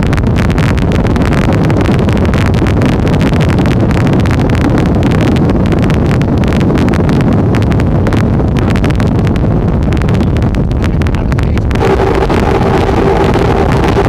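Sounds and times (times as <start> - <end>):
powerboat engine and water rush: 0.0 - 14.0
wind buffeting microphone: 0.0 - 14.0.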